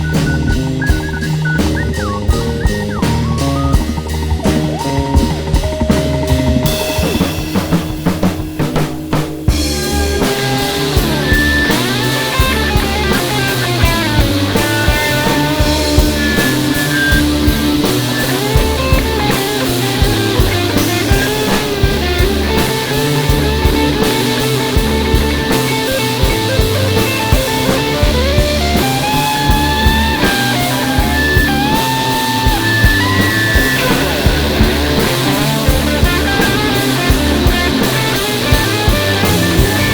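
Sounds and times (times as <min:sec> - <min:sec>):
instrumental rock music: 0:00.0 - 0:39.9.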